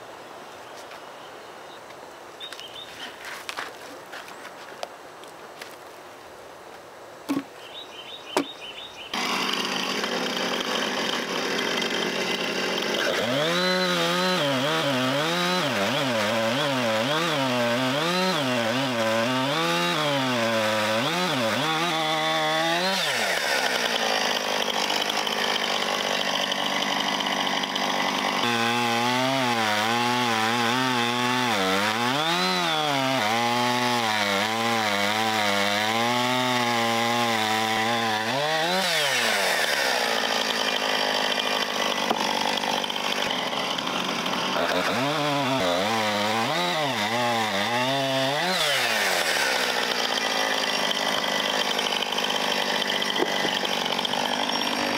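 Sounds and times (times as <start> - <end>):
chainsaw cutting log: 7.3 - 7.5, 9.1 - 54.9.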